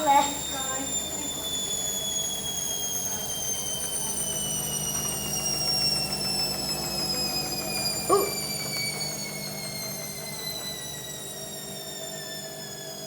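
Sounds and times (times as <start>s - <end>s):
washing machine motor whine: 0.0s - 13.0s.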